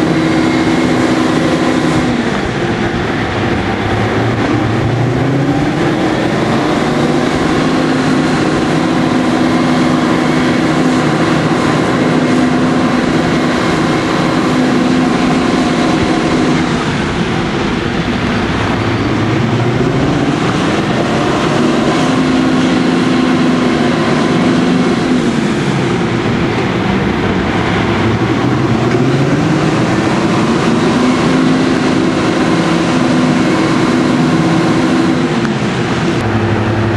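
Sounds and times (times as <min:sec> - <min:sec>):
locomotive engines working hard: 0:00.0 - 0:36.9
train rumbling on rails: 0:00.0 - 0:36.9.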